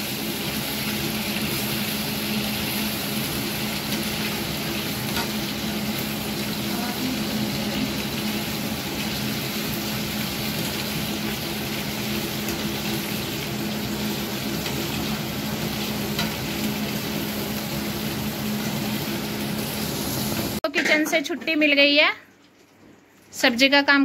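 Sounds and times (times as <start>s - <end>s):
food sizzling in a pan: 0.0s - 22.3s.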